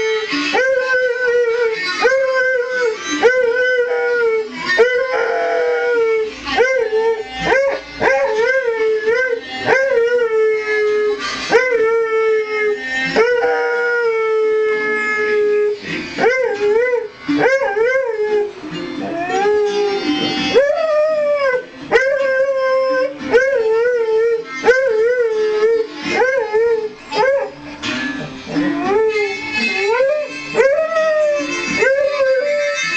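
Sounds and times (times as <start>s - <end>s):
dog howling: 0.0s - 27.6s, 28.5s - 32.9s
music: 0.0s - 32.9s.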